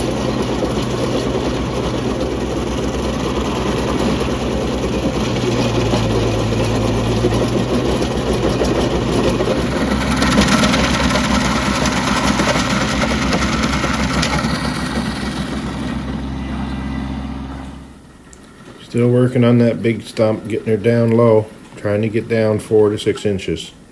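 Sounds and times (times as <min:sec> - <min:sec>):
stump grinder crackling: 0:00.0 - 0:22.0
tractor diesel engine drone: 0:00.0 - 0:23.9.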